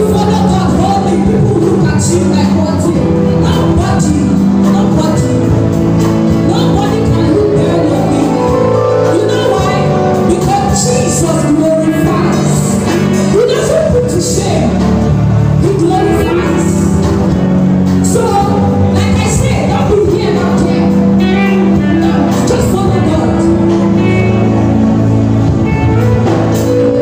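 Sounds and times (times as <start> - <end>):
gospel worship singing: 0.0 - 27.0
instrumental accompaniment: 0.0 - 27.0.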